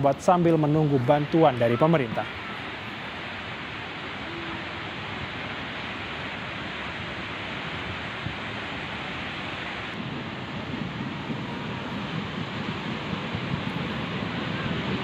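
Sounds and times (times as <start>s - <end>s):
storm rushing noise: 0.0s - 15.0s
wind buffeting microphone: 0.0s - 15.0s.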